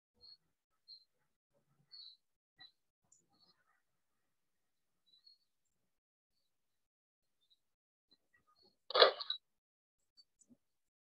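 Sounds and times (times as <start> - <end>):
faint high-pitched chirps: 0.2 - 9.5.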